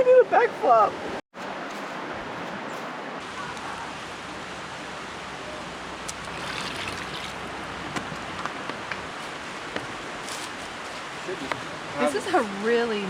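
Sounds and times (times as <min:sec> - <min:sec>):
creek water rushing: 0:00.3 - 0:13.0.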